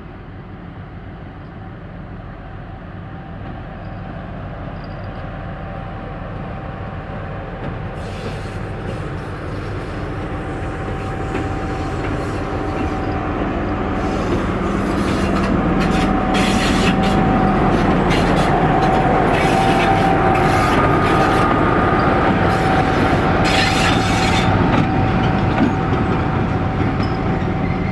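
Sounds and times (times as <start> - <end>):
train rumbling on track: 0.0 - 27.9.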